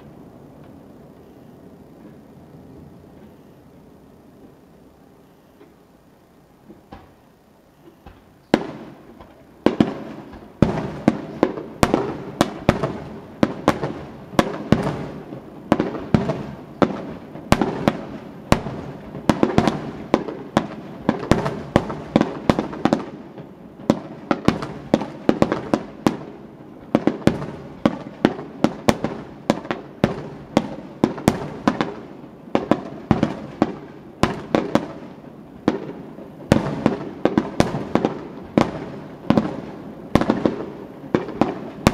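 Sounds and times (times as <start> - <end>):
fireworks crackling: 0.0 - 41.9
fireworks bangs: 6.6 - 41.9.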